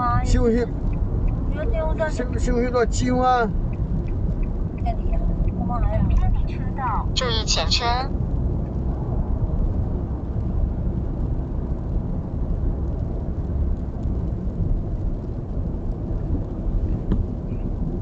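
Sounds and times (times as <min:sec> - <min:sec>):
tyre and road noise: 0:00.0 - 0:18.0.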